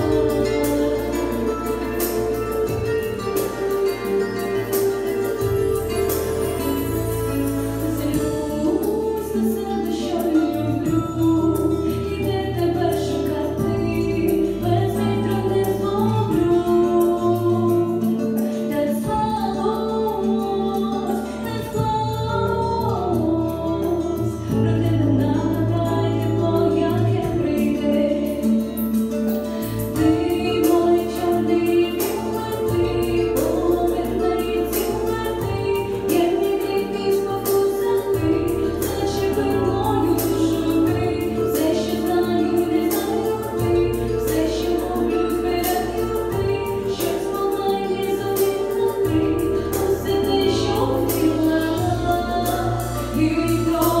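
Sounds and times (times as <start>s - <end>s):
instrumental backing with bass: 0.0s - 54.0s
woman singing into microphone: 0.0s - 54.0s.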